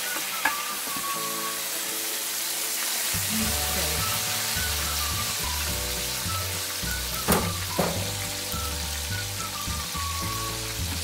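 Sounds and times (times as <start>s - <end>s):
meat juices sizzling in roasting pan: 0.0s - 11.0s.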